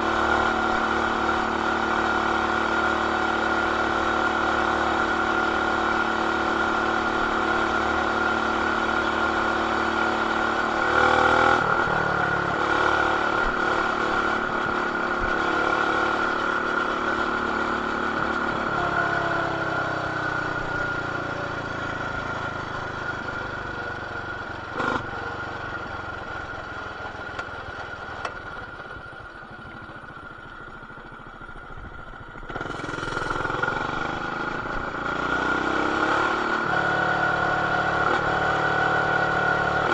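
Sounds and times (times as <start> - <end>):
muffled mini bike engine running: 0.0 - 39.9.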